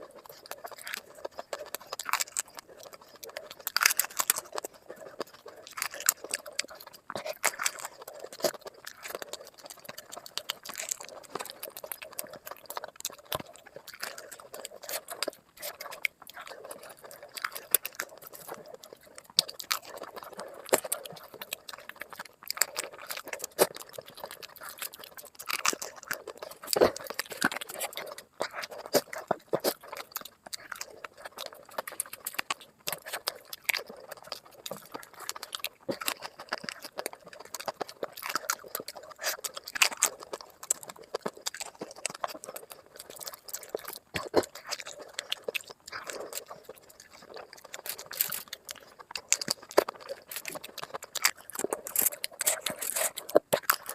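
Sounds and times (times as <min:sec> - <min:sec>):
chewing and biting: 0:00.0 - 0:53.9.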